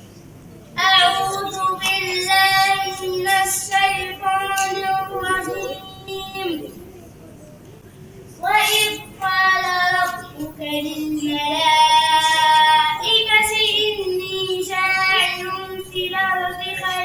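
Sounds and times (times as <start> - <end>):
child singing: 0.8 - 6.8, 8.4 - 17.0.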